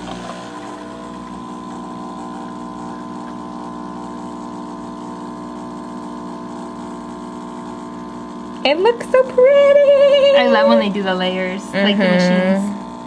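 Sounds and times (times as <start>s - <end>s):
espresso machine pump humming: 0.0s - 13.0s.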